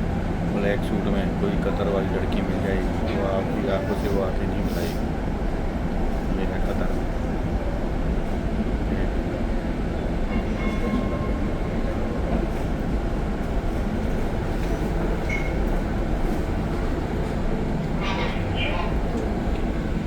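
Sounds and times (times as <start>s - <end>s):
tram rumbling: 0.0s - 20.0s.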